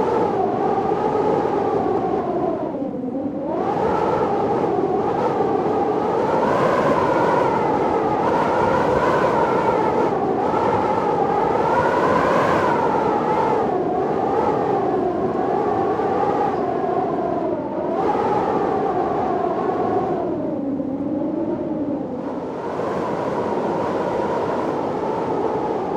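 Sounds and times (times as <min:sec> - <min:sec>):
storm wind howling: 0:00.0 - 0:25.9.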